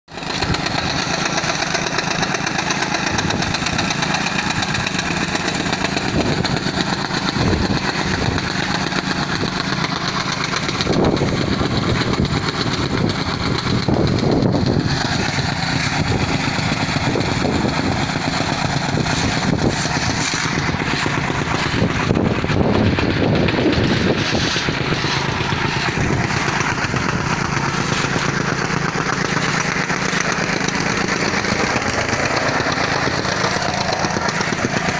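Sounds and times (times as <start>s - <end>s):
engine running steadily: 0.1s - 34.9s.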